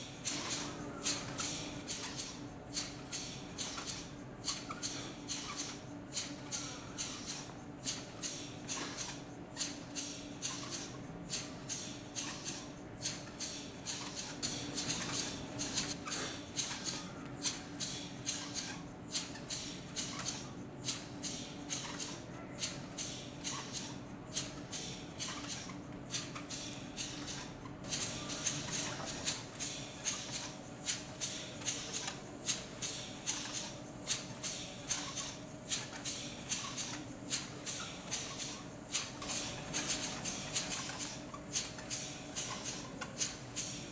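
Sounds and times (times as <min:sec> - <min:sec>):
pneumatic engine puffing and clicking: 0:00.0 - 0:43.9.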